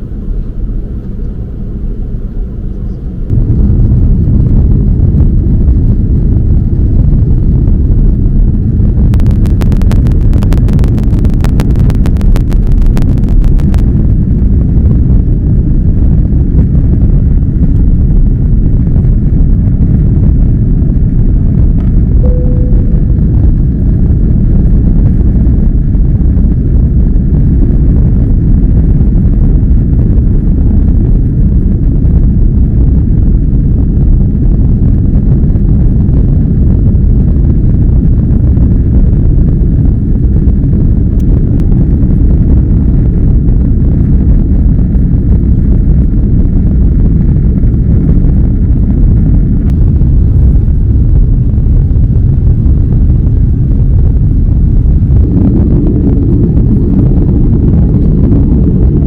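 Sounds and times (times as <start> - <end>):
jet engines rumbling in cabin: 0.0 - 59.0
rushing air: 0.0 - 59.0.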